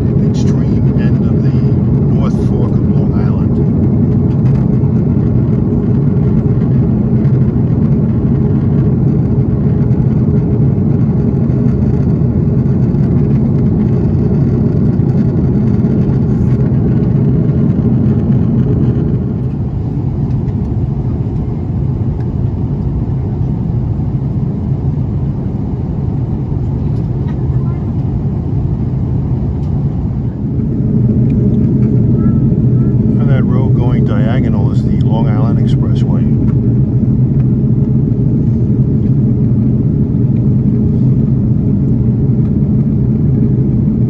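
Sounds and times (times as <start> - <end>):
airliner cabin rumble: 0.0 - 44.0.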